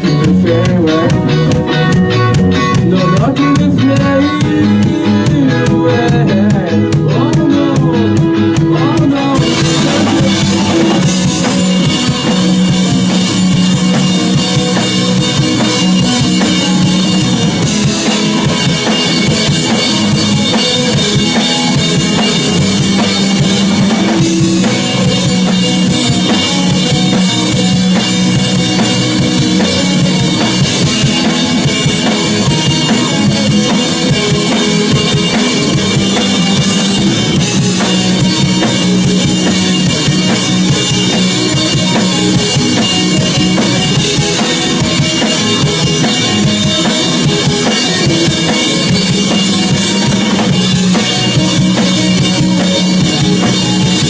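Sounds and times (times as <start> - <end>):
band music with drum kit: 0.0 - 54.0.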